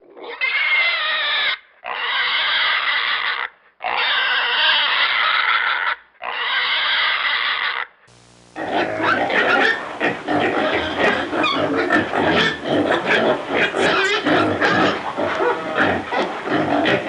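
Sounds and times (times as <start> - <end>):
pig squealing: 0.0 - 8.0, 8.6 - 17.0.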